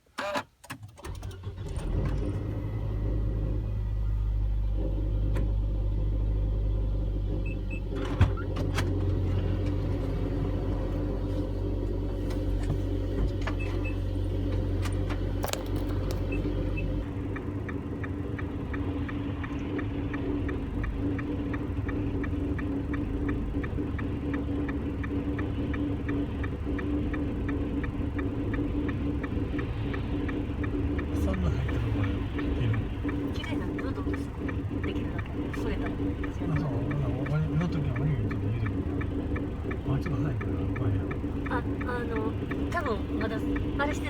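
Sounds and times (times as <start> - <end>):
car engine hum: 0.0 - 44.0
regular ticking: 1.0 - 44.0.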